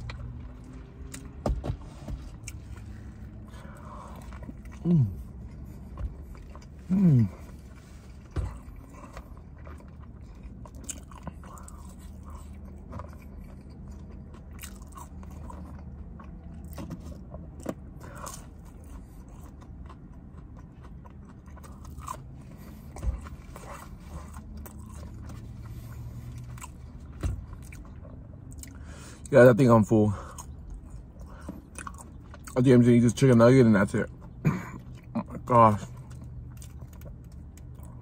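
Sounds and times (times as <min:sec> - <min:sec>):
chewing and biting food: 0:00.0 - 0:29.4, 0:30.2 - 0:38.0.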